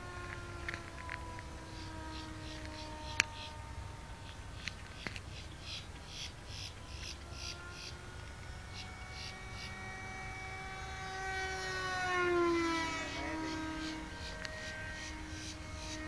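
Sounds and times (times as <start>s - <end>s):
model airplane flying past: 0.0s - 16.0s.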